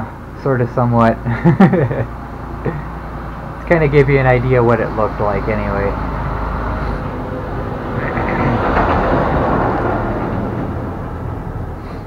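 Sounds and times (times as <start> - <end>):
vehicle passing by: 2.2 - 12.0.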